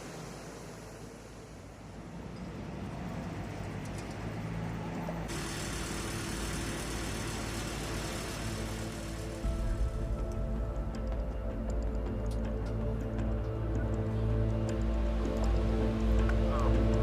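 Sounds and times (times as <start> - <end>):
engine rumble: 0.0 - 17.0.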